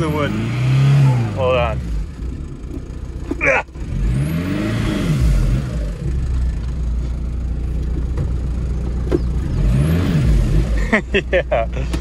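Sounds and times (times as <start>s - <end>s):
diesel car engine revving: 0.0s - 12.0s.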